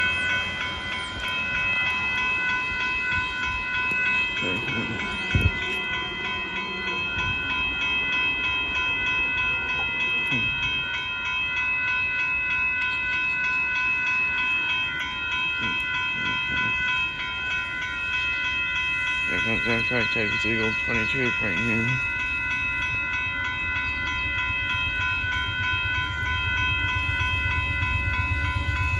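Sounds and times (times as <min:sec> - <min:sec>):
railroad crossing bell ringing: 0:00.0 - 0:28.9.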